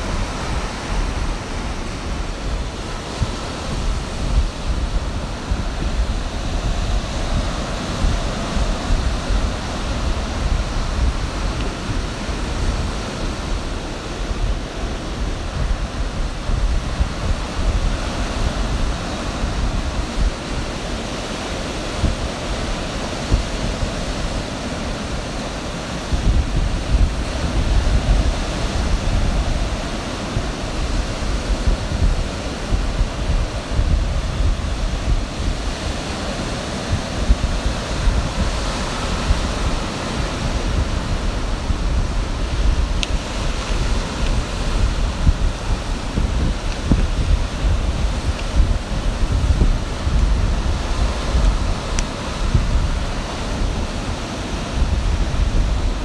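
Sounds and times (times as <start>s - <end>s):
ocean surf washing in: 0.0s - 56.0s
wind rumbling on microphone: 0.0s - 56.0s.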